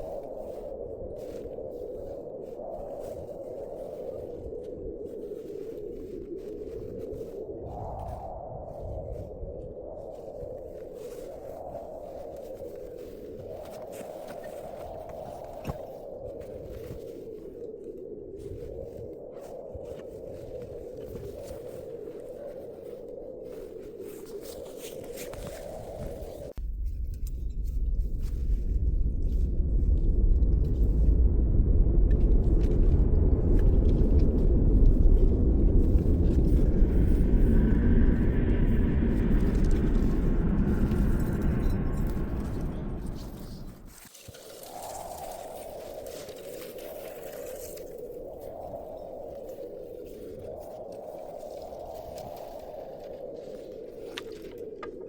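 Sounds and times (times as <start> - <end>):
blizzard wind blowing: 0.0 - 55.0.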